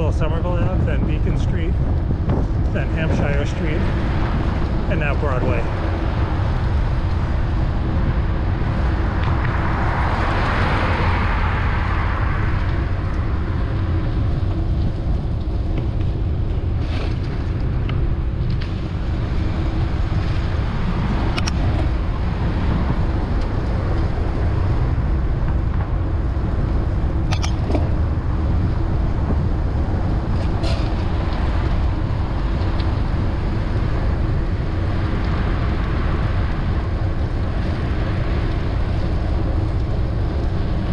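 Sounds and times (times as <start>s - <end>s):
city traffic noise: 0.0s - 40.9s
wind rumble on microphone: 0.0s - 40.9s
car passing: 2.5s - 40.9s.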